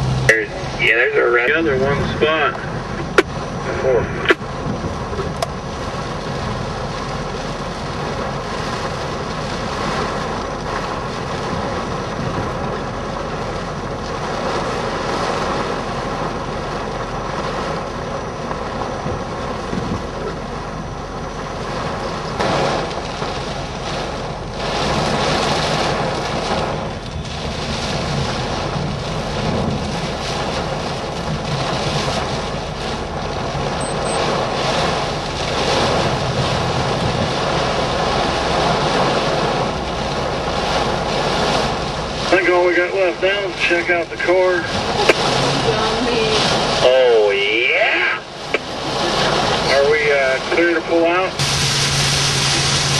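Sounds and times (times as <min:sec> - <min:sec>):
vehicle noise: 0:00.0 - 0:52.9.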